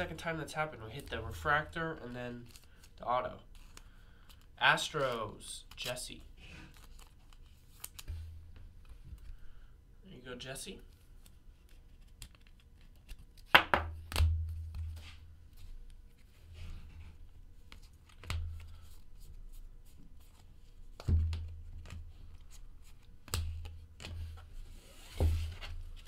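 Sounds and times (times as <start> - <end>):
cards flicked and shuffled: 0.9 - 9.4, 10.8 - 16.4, 17.6 - 26.0.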